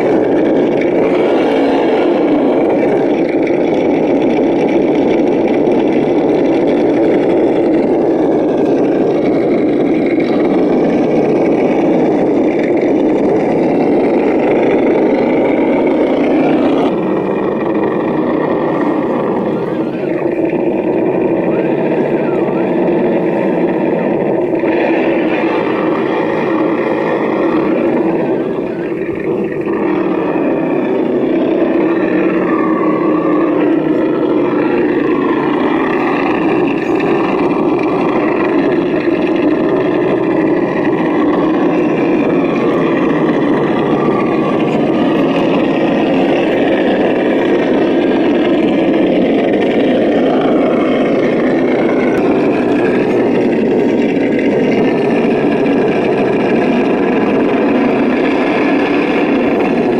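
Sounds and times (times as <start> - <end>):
simulated truck engine: 0.0 - 59.9.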